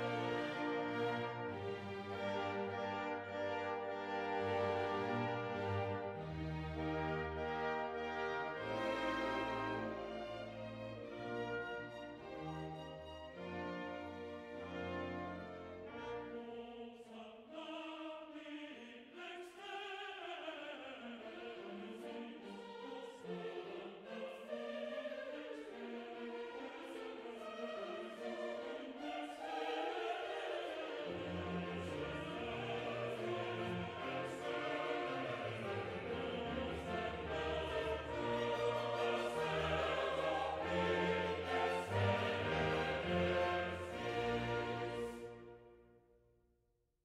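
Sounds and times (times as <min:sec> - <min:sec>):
orchestral music: 0:00.0 - 0:16.8, 0:23.3 - 0:45.7
choir singing sustained notes: 0:00.0 - 0:45.9.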